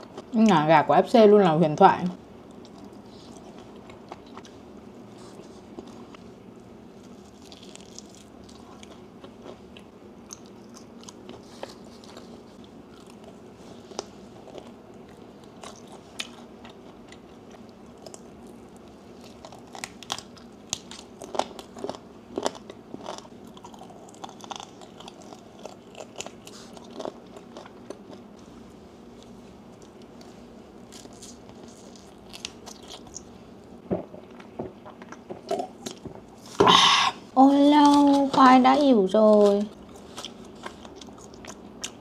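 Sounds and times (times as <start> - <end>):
chewing crispy fried chicken: 2.4 - 36.6, 39.4 - 42.0.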